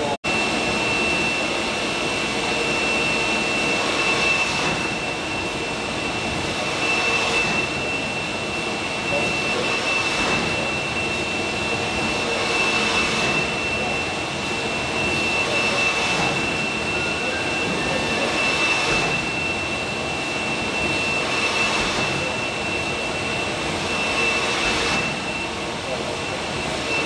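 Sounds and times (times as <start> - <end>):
robot machine hiss and whine: 0.4 - 27.0.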